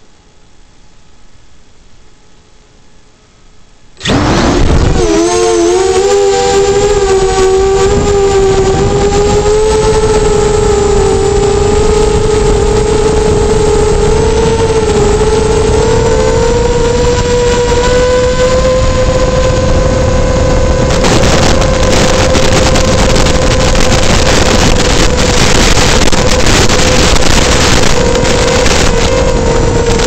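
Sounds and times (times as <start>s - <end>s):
drone motors whining: 4.0s - 30.0s
wind noise: 4.0s - 30.0s.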